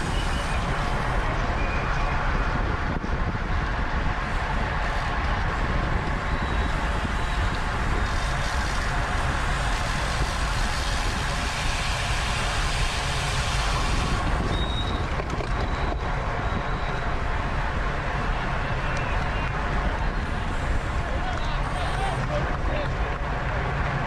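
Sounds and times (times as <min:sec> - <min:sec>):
tyre and road noise: 0:00.0 - 0:24.0
wind rushing over microphone: 0:00.0 - 0:24.0.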